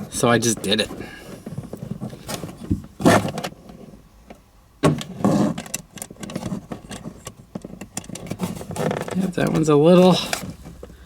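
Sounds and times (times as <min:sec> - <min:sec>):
rustling and clattering of wiring: 0:00.0 - 0:11.0.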